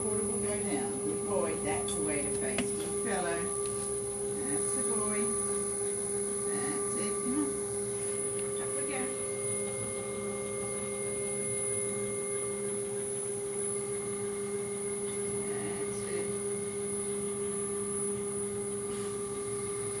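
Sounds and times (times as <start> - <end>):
machine hum with fixed tones: 0.0 - 20.0.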